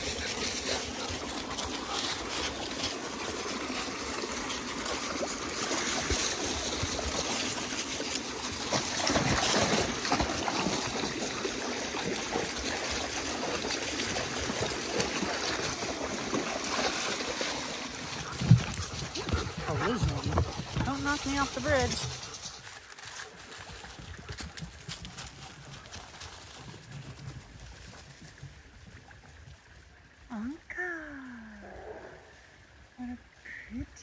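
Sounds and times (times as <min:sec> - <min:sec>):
dogs splashing in water: 0:00.0 - 0:27.2
brook trickling over stones: 0:00.0 - 0:31.2.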